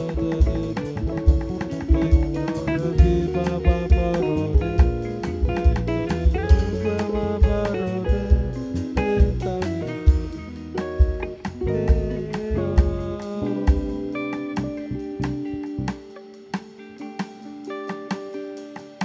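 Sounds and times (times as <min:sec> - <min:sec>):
bass line: 0:00.0 - 0:16.1
drum kit beat: 0:00.0 - 0:19.0
guitar: 0:00.0 - 0:19.0.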